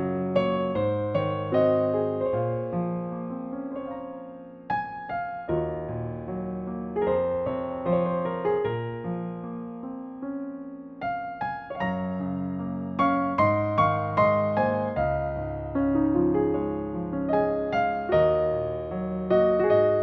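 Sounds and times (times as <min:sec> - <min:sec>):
gentle solo piano: 0:00.0 - 0:20.0.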